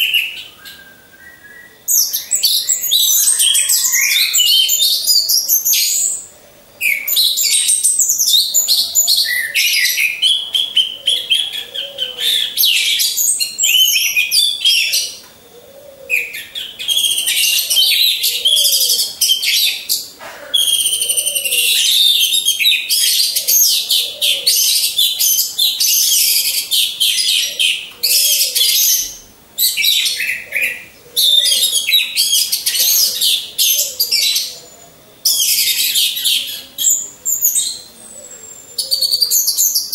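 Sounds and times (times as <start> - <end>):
thrushes singing: 0.0 - 39.9.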